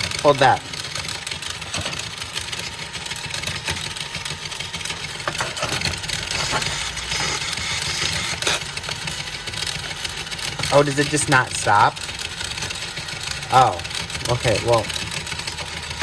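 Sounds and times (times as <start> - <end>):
toy car motor whirring: 0.0 - 16.0.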